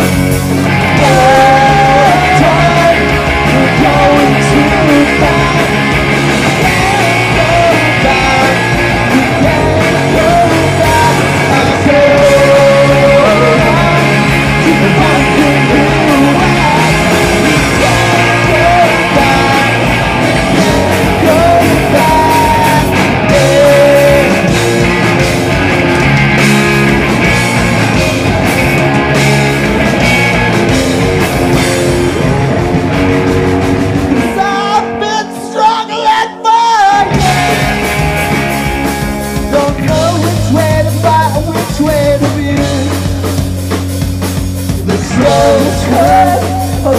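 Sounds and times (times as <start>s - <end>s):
distorted electric guitars: 0.0s - 46.9s
drums: 0.0s - 46.9s.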